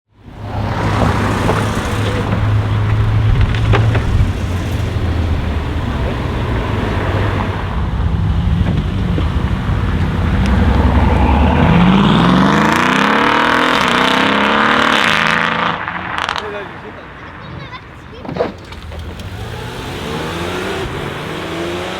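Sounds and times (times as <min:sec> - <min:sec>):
car engine rumbling and revving: 0:00.2 - 0:21.9.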